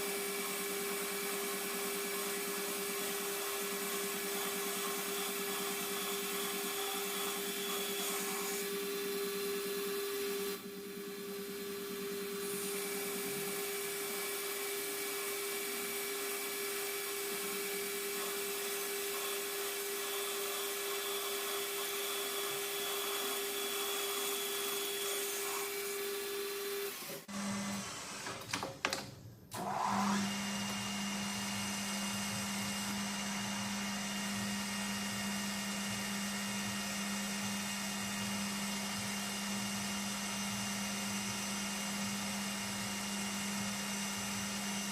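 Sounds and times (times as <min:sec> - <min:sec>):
lathe motor humming: 0:00.0 - 0:28.2, 0:29.6 - 0:44.9.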